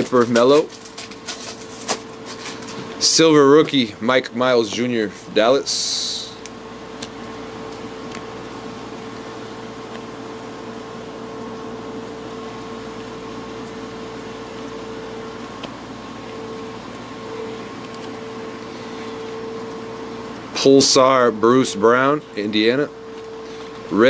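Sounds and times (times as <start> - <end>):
fan-like room hum with tone: 0.0 - 24.0.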